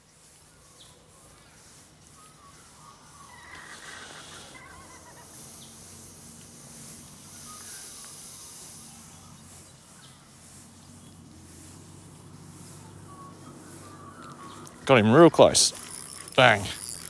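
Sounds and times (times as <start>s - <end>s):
faint bird chirps: 0.0s - 14.8s
steady high hiss: 0.0s - 17.0s.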